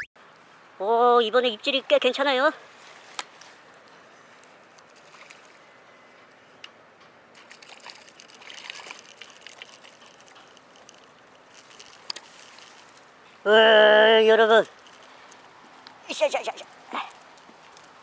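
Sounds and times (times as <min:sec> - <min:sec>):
water splashing and trickling: 0:02.5 - 0:06.2, 0:07.2 - 0:18.0.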